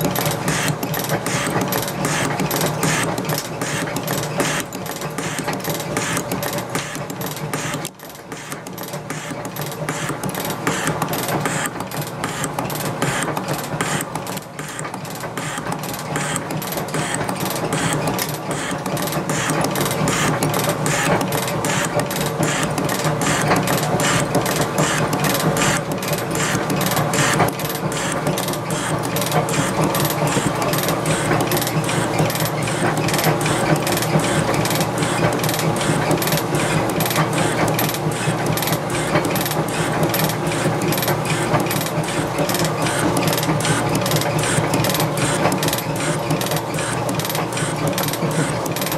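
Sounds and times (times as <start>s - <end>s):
steady motor hum: 0.0s - 48.9s.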